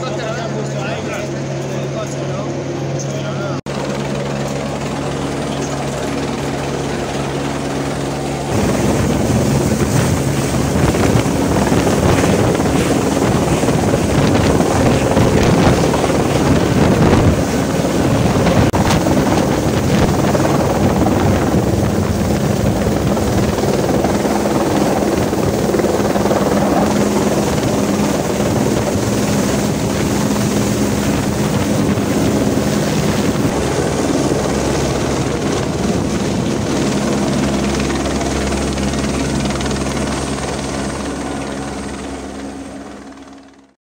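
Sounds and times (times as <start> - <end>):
helicopter rotor roar: 0.0 - 43.8
wind buffeting microphone: 4.2 - 42.1.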